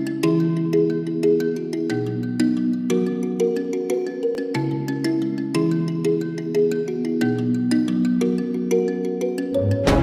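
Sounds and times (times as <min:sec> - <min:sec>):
mallet percussion melody: 0:00.0 - 0:10.0.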